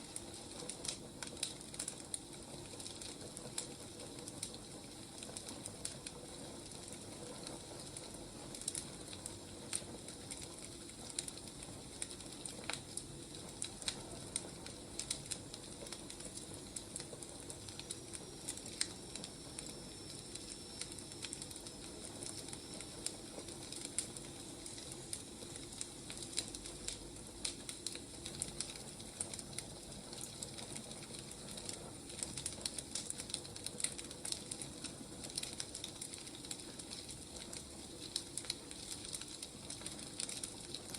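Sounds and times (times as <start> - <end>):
firewood crackling and popping: 0.0 - 40.9
steady low hiss: 3.4 - 40.9.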